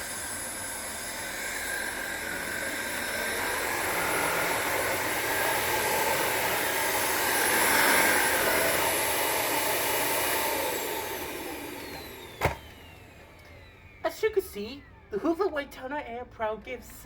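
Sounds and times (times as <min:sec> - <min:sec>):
vacuum cleaner running: 0:00.0 - 0:15.6.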